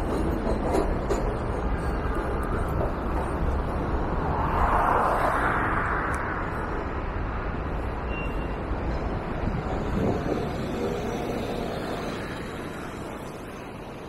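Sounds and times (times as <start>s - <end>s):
wind noise on microphone: 0.0s - 13.9s
street traffic: 0.0s - 14.0s.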